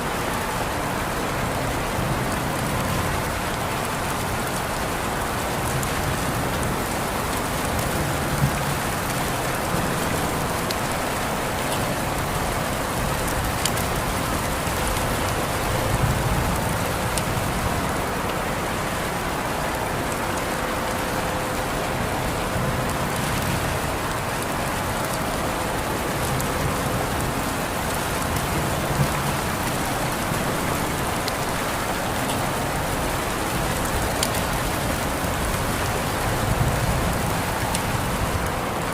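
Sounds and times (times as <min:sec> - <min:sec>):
steady rain hiss: 0:00.0 - 0:38.9
raindrop ticks: 0:00.2 - 0:38.9.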